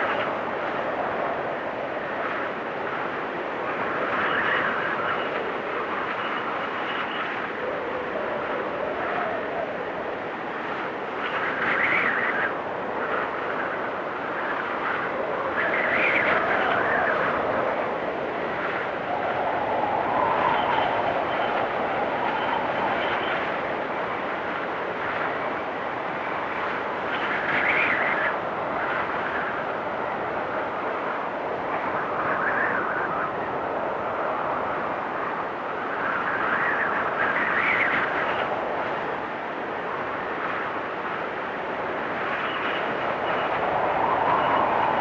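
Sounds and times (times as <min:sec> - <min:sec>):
blizzard wind gusting: 0:00.0 - 0:45.0.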